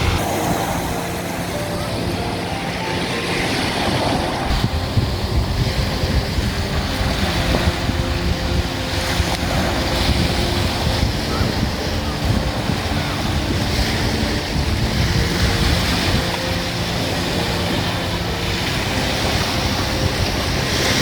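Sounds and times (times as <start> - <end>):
surf breaking on shore: 0.0 - 21.0
wind buffeting microphone: 0.0 - 21.0.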